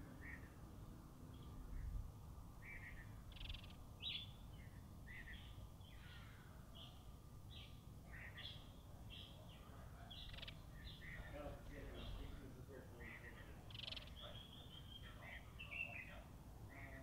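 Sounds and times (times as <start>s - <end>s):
low outdoor background: 0.0s - 17.0s
small birds chirping: 0.0s - 17.0s.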